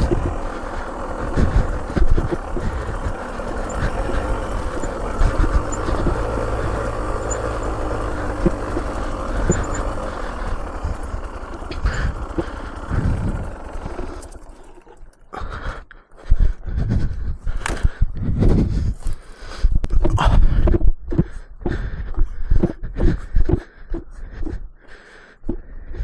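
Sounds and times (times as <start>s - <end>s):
off-road vehicle engine low revs: 0.0s - 26.0s.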